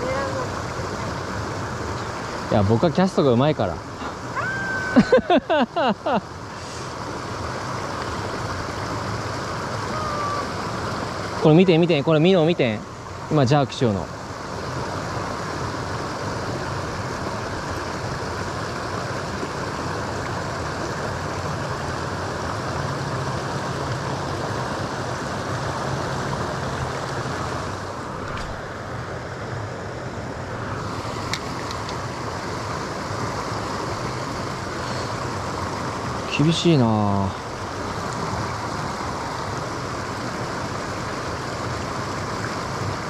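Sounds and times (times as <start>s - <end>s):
rushing water: 0.0s - 43.0s
wind: 0.0s - 43.0s.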